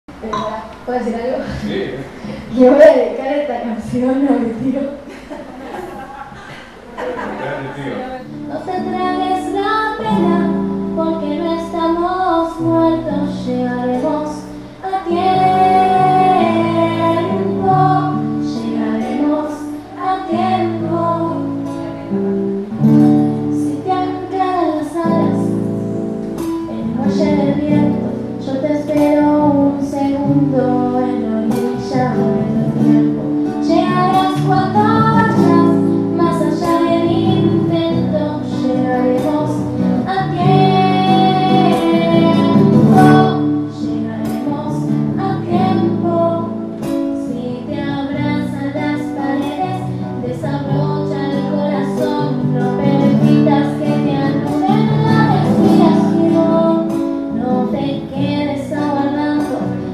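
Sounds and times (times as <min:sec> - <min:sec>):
acoustic guitar strumming: 0:05.7 - 0:59.9
girl singing into a microphone: 0:08.0 - 0:59.9.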